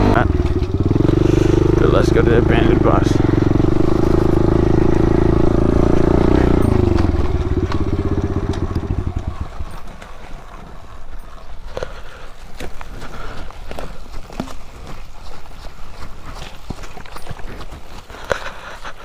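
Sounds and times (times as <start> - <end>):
small motorbike engine running: 0.0 - 19.0.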